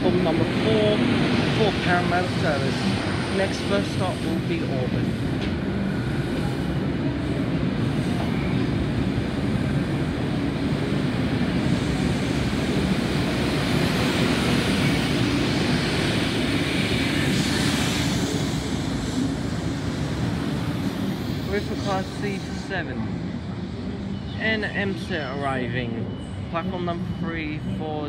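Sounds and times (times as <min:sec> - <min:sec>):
train hiss: 0:00.0 - 0:05.3, 0:05.9 - 0:23.2
train rumbling past: 0:00.0 - 0:28.0.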